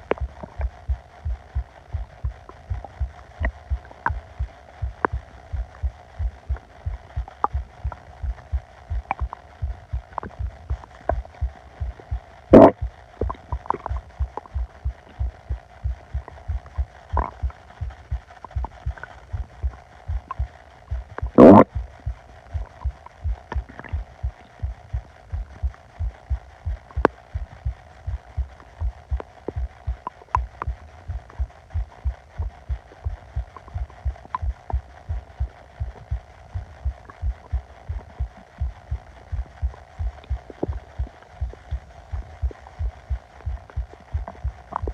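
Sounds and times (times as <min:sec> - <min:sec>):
faint steady hum: 0:00.0 - 0:44.9
low thumping pulse: 0:00.0 - 0:44.9
stomach gurgles: 0:00.0 - 0:44.9.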